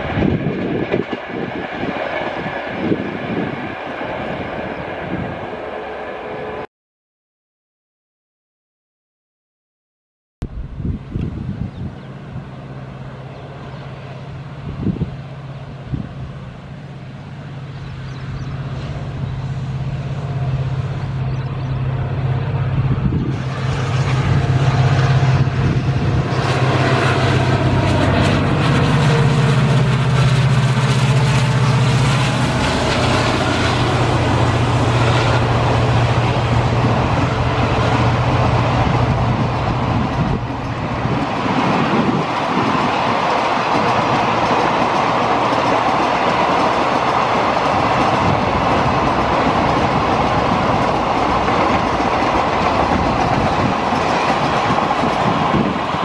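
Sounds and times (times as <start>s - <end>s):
train wheels rumbling on rails: 0.0s - 6.6s, 10.6s - 56.0s
diesel locomotive engine drone: 0.0s - 6.7s, 10.4s - 56.0s.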